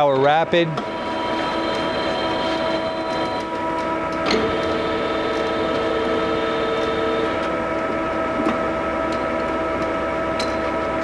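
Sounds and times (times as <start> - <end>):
lathe machine whine: 0.0 - 11.0.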